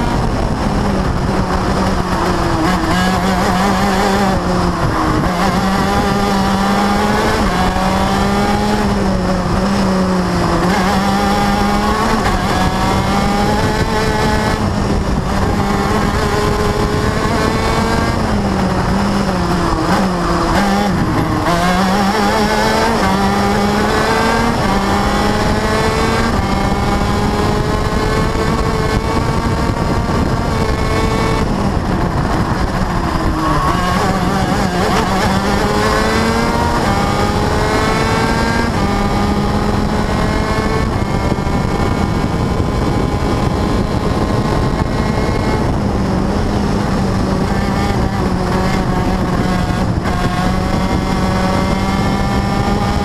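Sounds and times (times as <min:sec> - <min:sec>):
race car engine revving: 0:00.0 - 0:53.0
road noise: 0:00.0 - 0:53.0
wind rush: 0:00.0 - 0:53.0.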